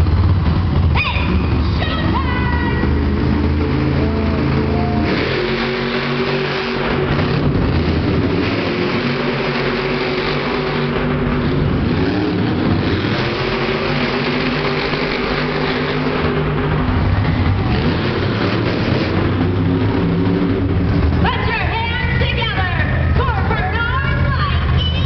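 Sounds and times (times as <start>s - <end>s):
monster truck engines revving: 0.0s - 25.0s.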